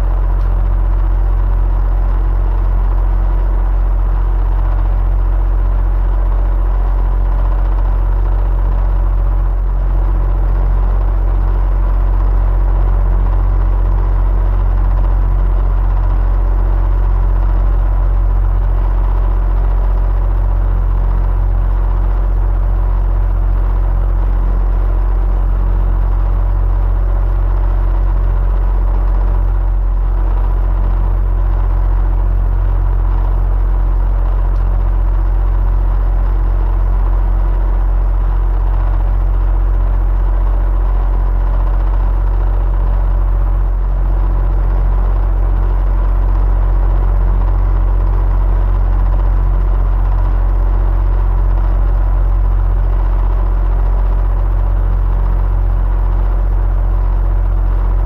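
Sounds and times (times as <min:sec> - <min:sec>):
electric fan humming: 0:00.0 - 0:49.2.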